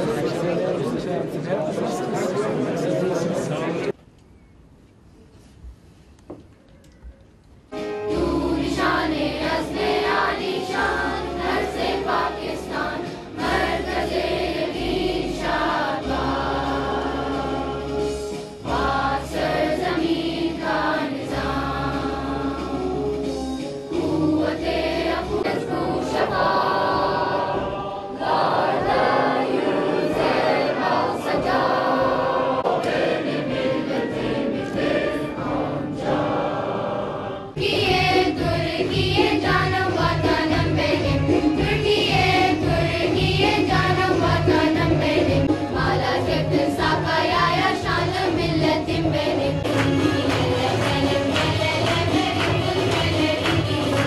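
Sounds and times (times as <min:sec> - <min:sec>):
instrumental accompaniment: 0:07.6 - 0:54.0
choir singing: 0:08.1 - 0:54.0.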